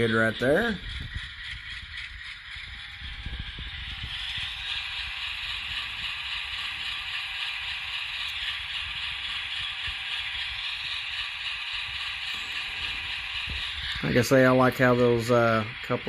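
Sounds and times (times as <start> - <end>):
model train wheels clattering: 0.0 - 16.0.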